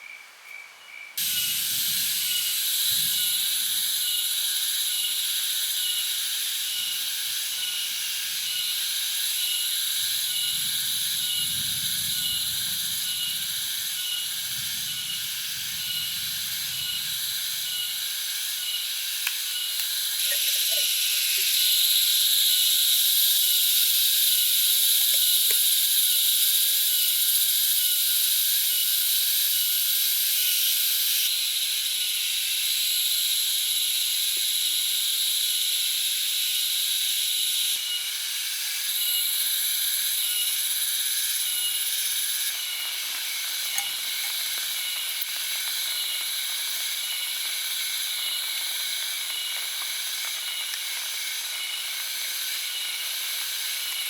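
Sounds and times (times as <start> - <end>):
insect chorus: 0.0 - 54.0
pulsing insect chirp: 0.0 - 54.0.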